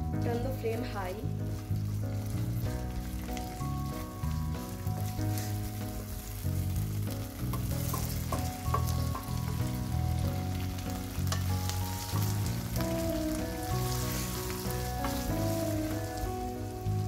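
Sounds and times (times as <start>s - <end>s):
low background music: 0.0s - 17.0s
vegetables sizzling in butter: 0.2s - 17.0s.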